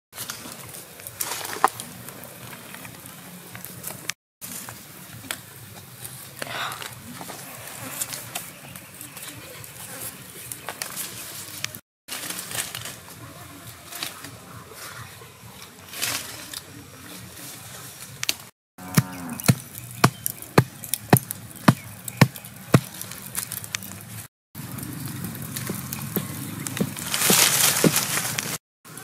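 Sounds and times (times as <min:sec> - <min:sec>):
wood fire crackling and hissing: 0:00.2 - 0:18.5, 0:19.4 - 0:29.0
leaves and branches rustling: 0:00.2 - 0:29.0.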